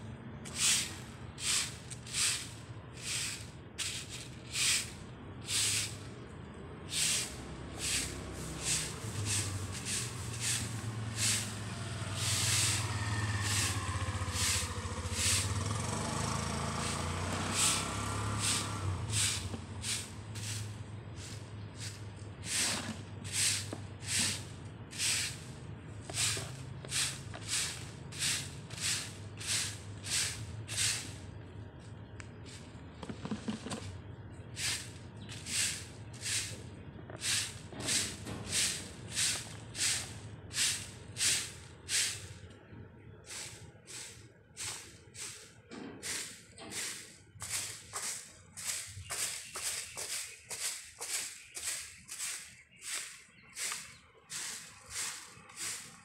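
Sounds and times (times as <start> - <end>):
vehicle passing with low rumble: 0.0 - 49.4
broom sweeping pavement: 0.3 - 56.0.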